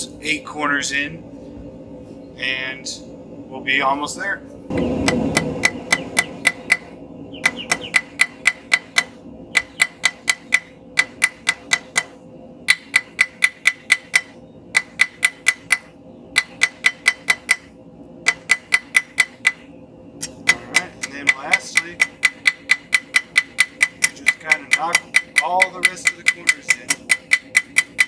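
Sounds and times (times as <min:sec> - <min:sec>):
hammer striking steel on anvil: 0:04.7 - 0:17.7, 0:18.3 - 0:28.0.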